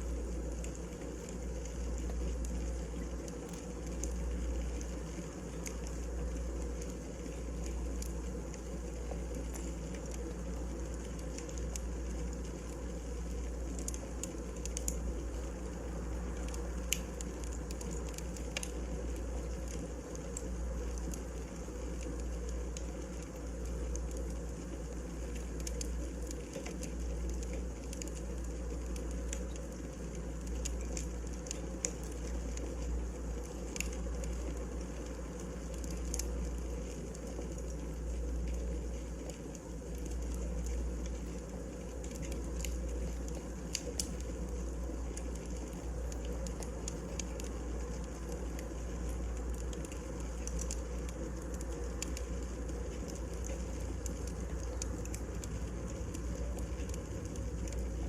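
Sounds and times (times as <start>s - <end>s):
fire low rumble: 0.0s - 58.0s
firewood crackling and popping: 0.0s - 58.0s.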